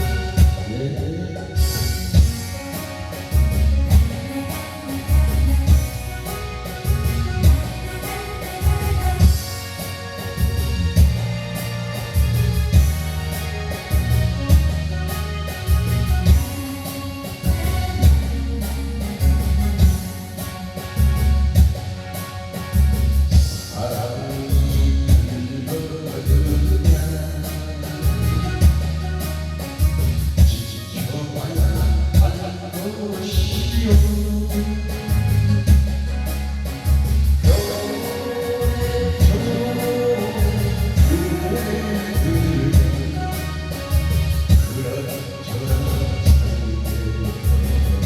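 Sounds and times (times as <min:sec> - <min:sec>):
person singing: 0:00.0 - 0:21.4, 0:23.3 - 0:36.8, 0:37.4 - 0:48.0
heavy drum and bass beat: 0:00.0 - 0:48.0
trot song playing: 0:00.0 - 0:48.0.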